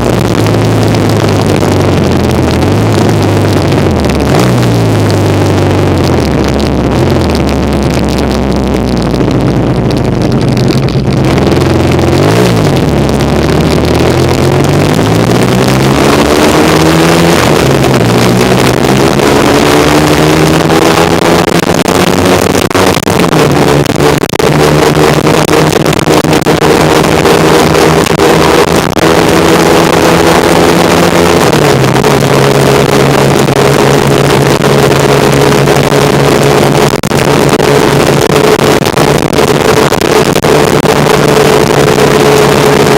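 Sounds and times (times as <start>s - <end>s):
motorcycle engine revving: 0.0s - 42.9s
wind rush on microphone: 0.0s - 42.9s.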